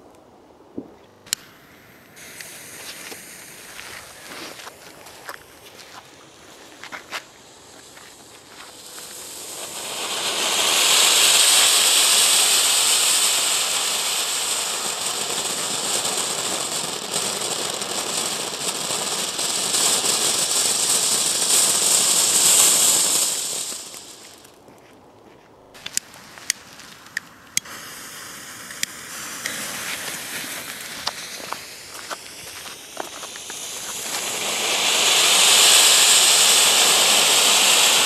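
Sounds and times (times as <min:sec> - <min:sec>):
firework fountain hissing: 0:01.2 - 0:24.6, 0:25.8 - 0:38.0.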